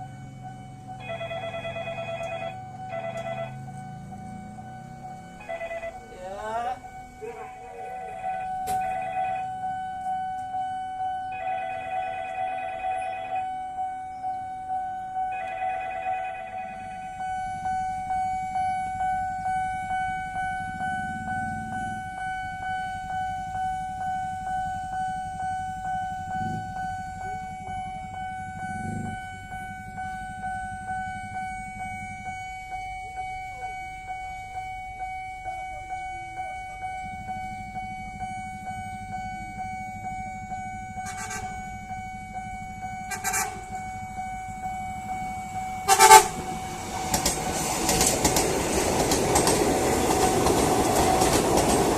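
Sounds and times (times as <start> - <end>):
level-crossing warning bell: 0.0 - 51.9
low traffic rumble: 0.0 - 51.9.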